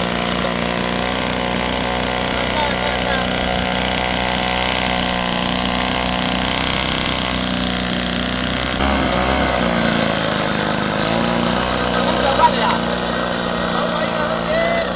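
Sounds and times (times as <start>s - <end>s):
small two-stroke engine running: 0.0s - 14.9s.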